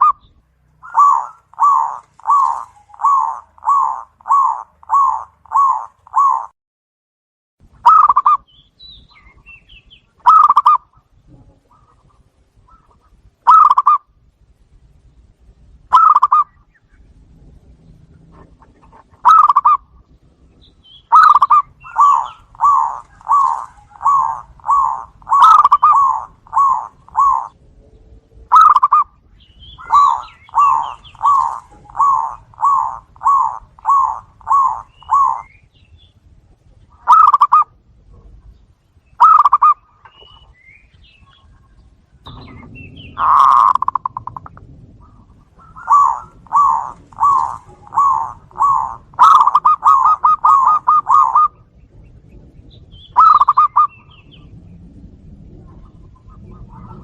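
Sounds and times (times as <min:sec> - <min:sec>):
doves cooing: 0:00.0 - 0:06.5, 0:07.8 - 0:08.4, 0:10.2 - 0:14.1, 0:15.9 - 0:16.6, 0:17.8 - 0:27.6, 0:28.5 - 0:35.8, 0:36.8 - 0:38.5, 0:39.2 - 0:57.0.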